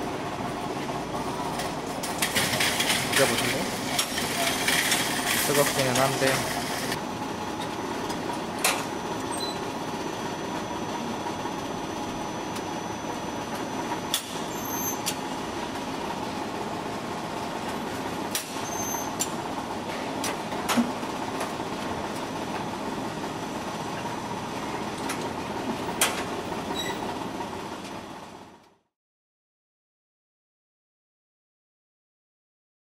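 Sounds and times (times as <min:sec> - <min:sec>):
market hum and bustle: 0:00.0 - 0:28.9.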